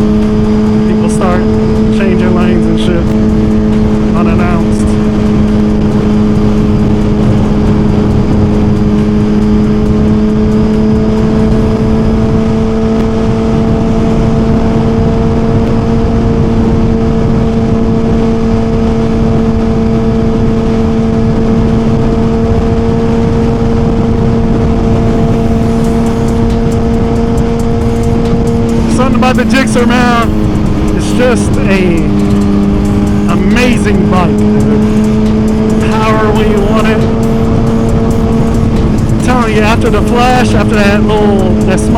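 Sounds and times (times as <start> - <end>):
motorcycle engine droning: 0.0 - 41.9
wind rush: 0.0 - 41.9.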